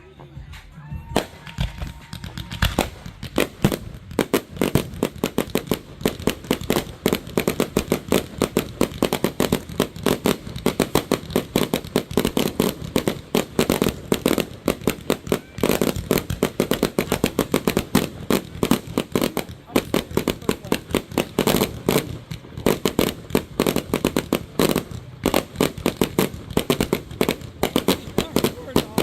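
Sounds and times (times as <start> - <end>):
fireworks popping and banging: 0.0 - 29.0.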